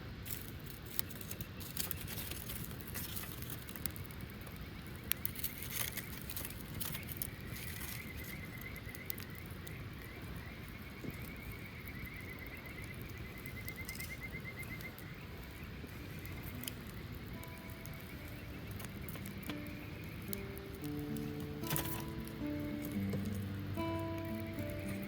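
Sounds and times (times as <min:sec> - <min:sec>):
campfire crackling and popping: 0:00.0 - 0:25.0
low outdoor hiss: 0:00.0 - 0:25.0.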